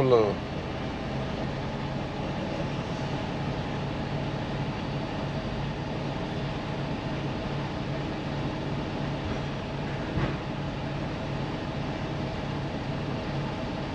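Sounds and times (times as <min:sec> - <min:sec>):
road noise: 0:00.0 - 0:13.9
truck engine drone: 0:00.0 - 0:13.9.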